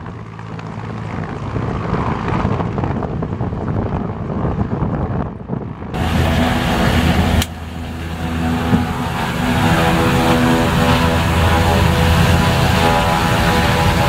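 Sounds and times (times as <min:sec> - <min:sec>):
propeller engine drone: 0:00.0 - 0:14.0.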